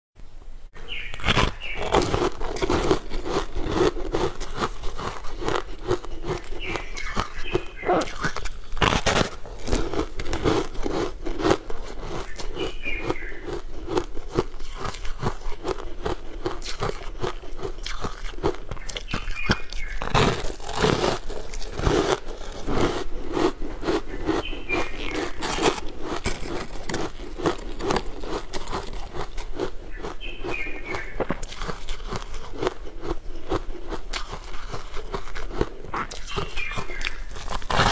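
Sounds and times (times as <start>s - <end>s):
crunching bites of frozen food: 0.9s - 37.9s.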